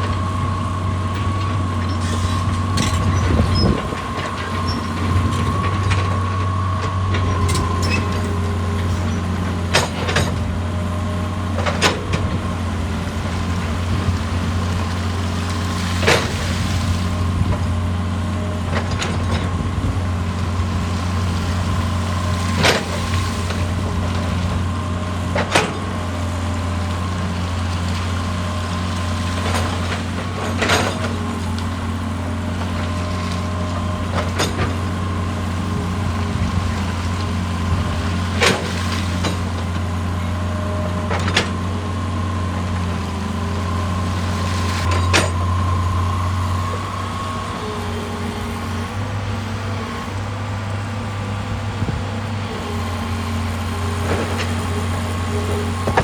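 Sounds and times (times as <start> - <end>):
diesel machine droning: 0.0 - 56.0.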